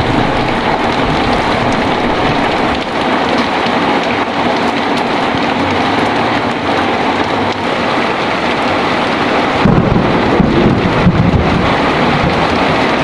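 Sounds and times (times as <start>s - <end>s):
heavy rain falling: 0.0s - 13.0s
thunder rumbling: 0.0s - 13.0s.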